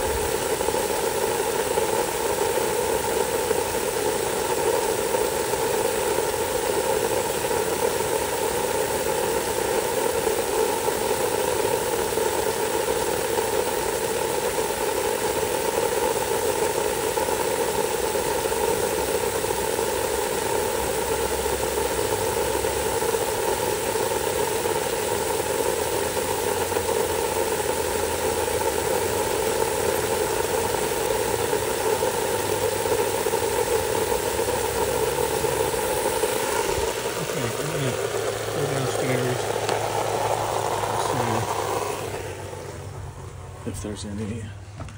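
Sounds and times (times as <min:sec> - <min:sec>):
hose spraying water: 0:00.0 - 0:44.4.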